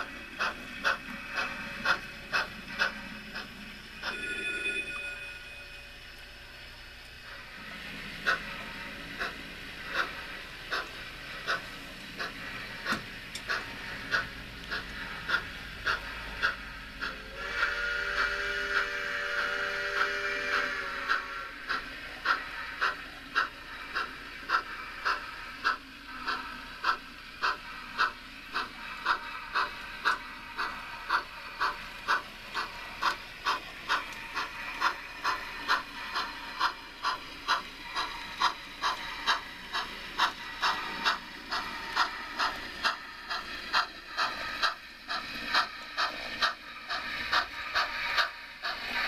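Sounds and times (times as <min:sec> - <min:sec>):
steam hiss: 0:00.0 - 0:04.3, 0:06.0 - 0:49.0
steam locomotive exhaust chuffs: 0:00.0 - 0:49.0.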